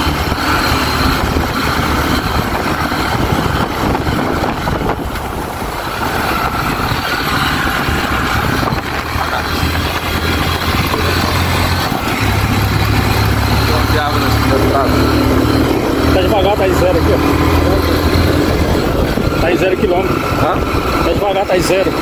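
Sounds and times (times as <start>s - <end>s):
motorcycle engine under load: 0.0s - 22.0s
wind noise: 0.0s - 22.0s.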